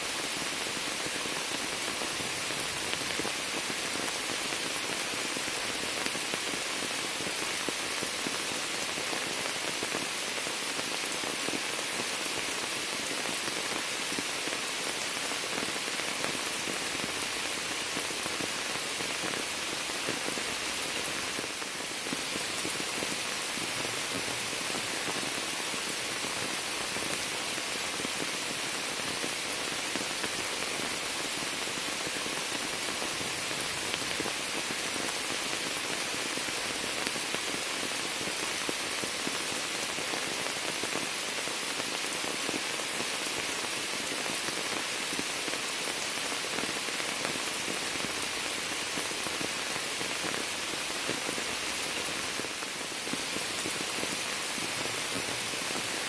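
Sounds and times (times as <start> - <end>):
rain on water and leaves: 0.0 - 56.0.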